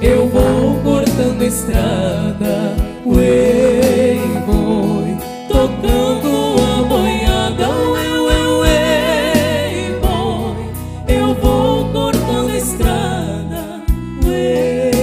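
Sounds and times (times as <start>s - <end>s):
live band playing: 0.0s - 15.0s
women singing in harmony: 0.0s - 15.0s.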